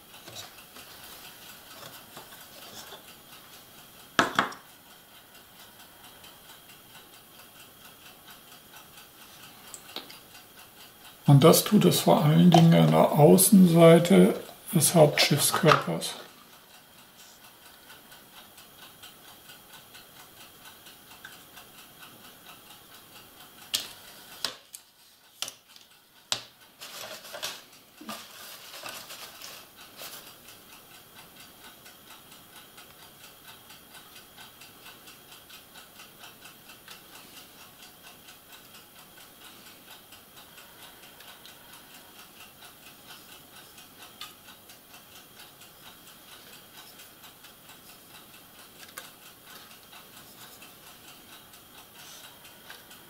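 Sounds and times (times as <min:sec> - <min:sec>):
soft fast ticking: 0:00.0 - 0:26.8, 0:27.6 - 0:53.0.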